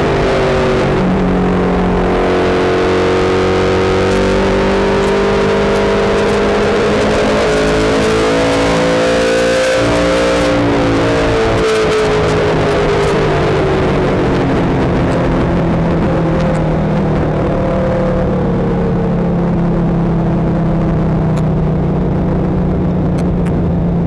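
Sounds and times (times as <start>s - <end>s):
race car engine at high revs: 0.0s - 24.0s.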